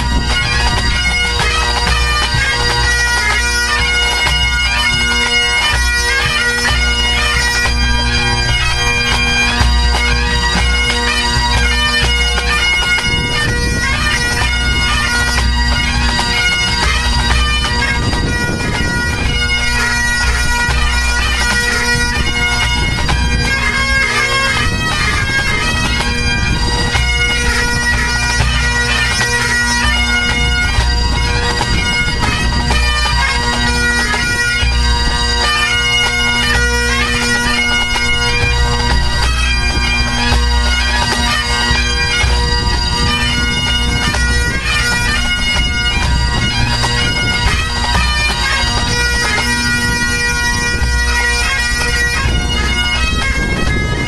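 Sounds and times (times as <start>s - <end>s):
bagpipes playing: 0.0s - 54.0s
band drums beating: 0.0s - 54.0s.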